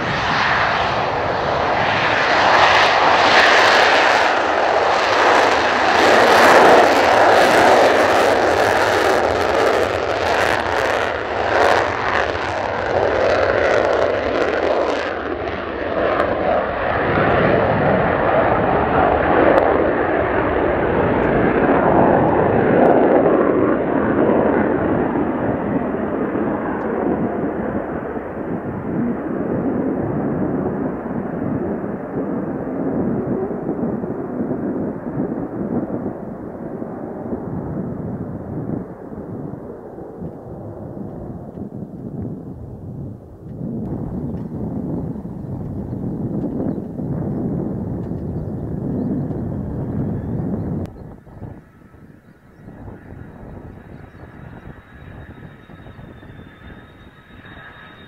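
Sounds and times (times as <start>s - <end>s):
jet engine roaring with crackle: 0.0s - 58.0s.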